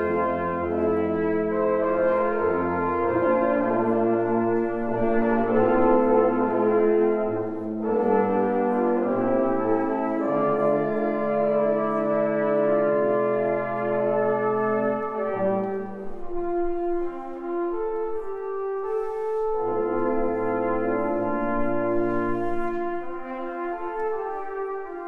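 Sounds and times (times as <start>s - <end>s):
wind band playing slow chords: 0.0s - 25.0s.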